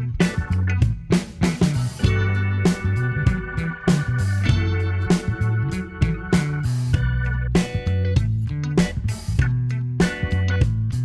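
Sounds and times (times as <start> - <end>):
funky instrumental music: 0.0 - 11.0.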